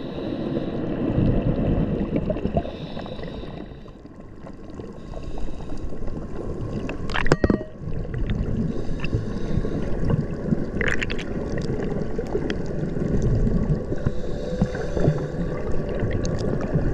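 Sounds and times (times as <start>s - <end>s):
muffled underwater rush and bubbling: 0.0s - 16.9s.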